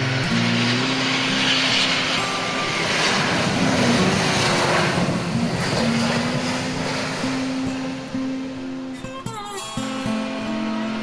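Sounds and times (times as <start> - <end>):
jet airliner landing: 0.0 - 11.0
music with plucked guitar: 0.0 - 11.0.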